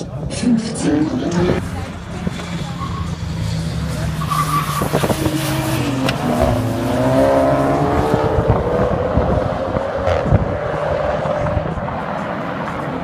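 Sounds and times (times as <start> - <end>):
drag car engines revving: 0.0 - 13.0.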